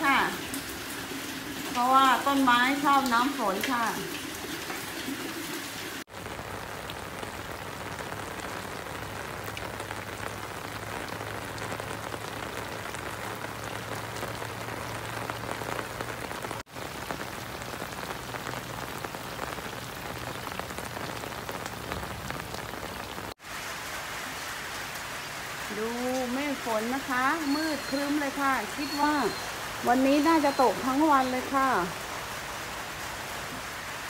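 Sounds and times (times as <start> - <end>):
heavy rain on standing water: 0.0 - 34.0.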